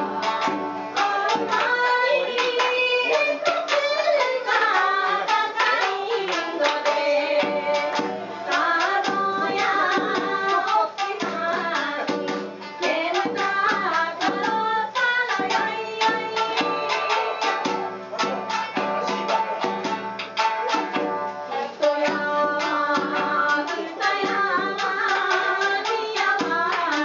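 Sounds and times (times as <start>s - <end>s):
woman singing: 0.0s - 17.5s, 21.7s - 27.0s
plucked shamisen notes: 0.0s - 27.0s.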